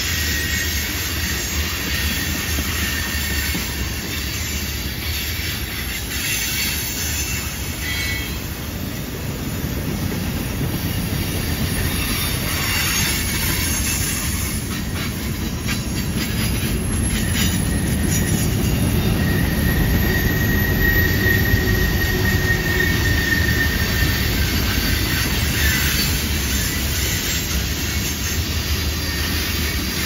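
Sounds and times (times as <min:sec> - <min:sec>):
wheel flanges squealing: 0:00.0 - 0:09.0, 0:10.6 - 0:30.0
steel wheels rumbling on rail: 0:00.0 - 0:30.0.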